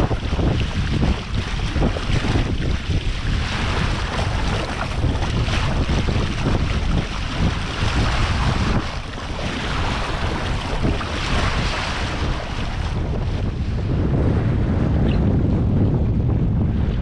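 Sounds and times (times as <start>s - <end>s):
water splashing along boat hull: 0.0s - 15.7s
wind buffeting microphone: 0.0s - 17.0s.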